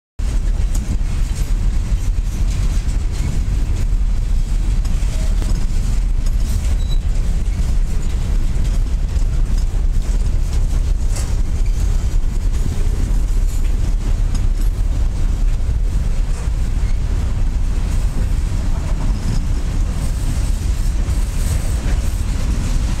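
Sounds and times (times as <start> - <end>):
freight train wheels rumbling: 0.2 - 23.0.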